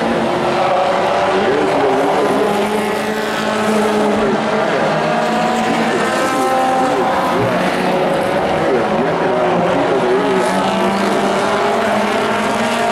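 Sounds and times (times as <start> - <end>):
race truck engines: 0.0 - 12.9.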